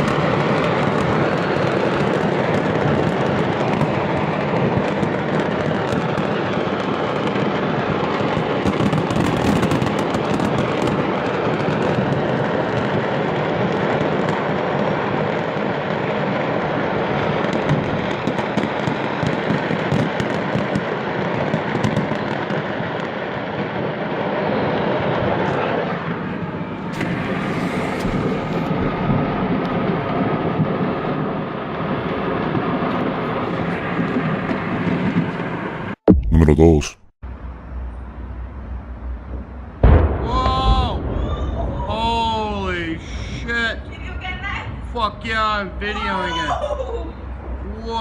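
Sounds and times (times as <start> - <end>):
explosions rumbling and crackling: 0.0 - 36.6, 39.1 - 48.0.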